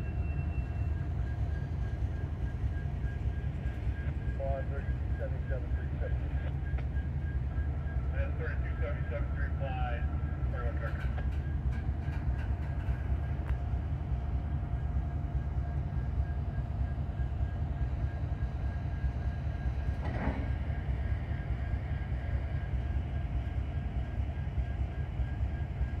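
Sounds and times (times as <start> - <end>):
faint steady whine: 0.0 - 26.0
freight cars rumbling on rails: 0.0 - 26.0.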